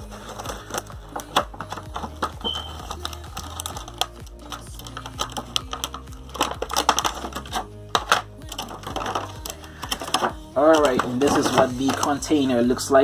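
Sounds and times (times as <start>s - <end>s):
plastic packaging crackling: 0.0s - 12.7s
background music: 0.0s - 13.0s.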